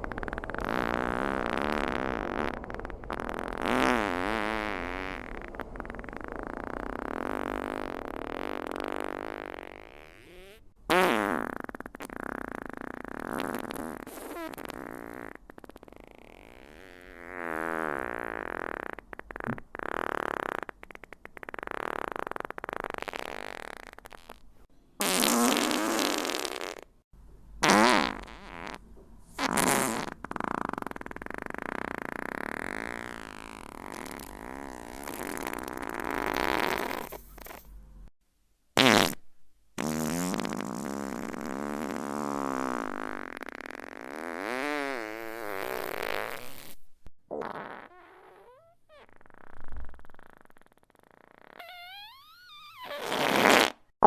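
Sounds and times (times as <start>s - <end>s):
fart sound effects: 0.0s - 24.4s, 25.0s - 27.0s, 27.6s - 28.8s, 29.4s - 37.7s, 38.8s - 39.2s, 39.8s - 54.0s.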